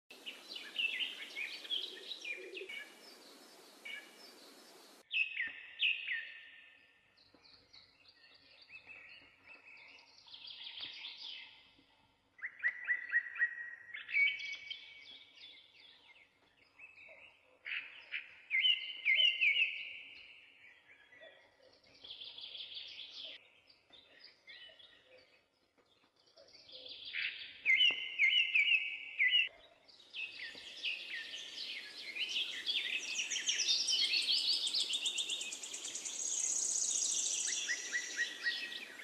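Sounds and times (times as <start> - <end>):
songbird singing falling chirps: 0.1 - 11.8, 12.4 - 39.0
bird chirps: 0.2 - 39.0.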